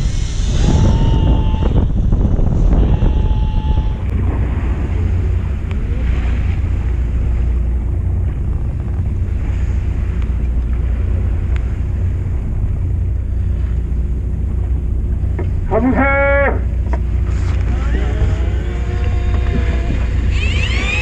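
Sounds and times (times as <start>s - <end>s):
wind buffeting microphone: 0.0s - 15.8s, 16.5s - 21.0s
boat engine rumbling: 0.0s - 21.0s
waves splashing against hull: 0.0s - 21.0s.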